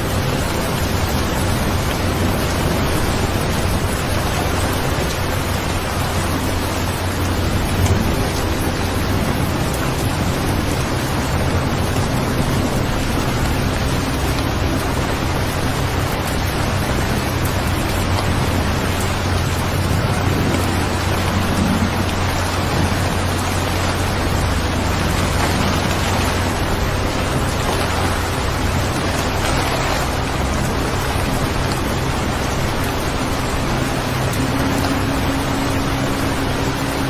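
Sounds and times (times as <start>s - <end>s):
low constant rumble: 0.0s - 37.0s
steady rain: 0.0s - 37.0s.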